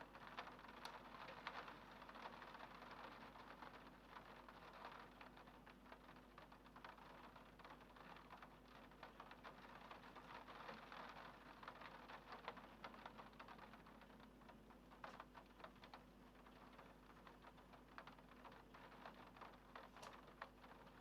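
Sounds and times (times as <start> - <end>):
raindrops tapping on window: 0.0 - 21.0.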